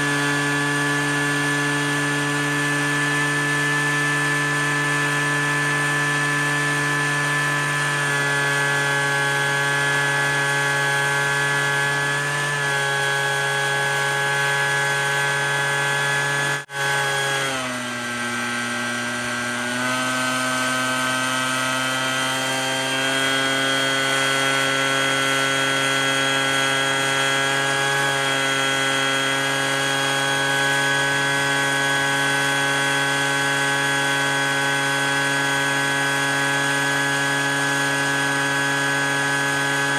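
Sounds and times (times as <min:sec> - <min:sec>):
leaf blower and vacuums whining: 0:00.0 - 0:39.9.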